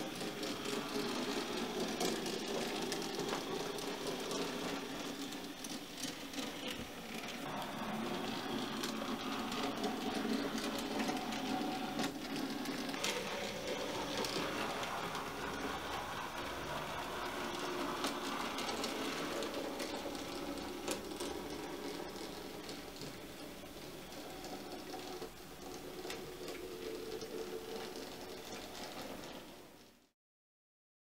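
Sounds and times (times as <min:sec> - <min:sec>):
wheels clicking on track: 0:00.0 - 0:30.1.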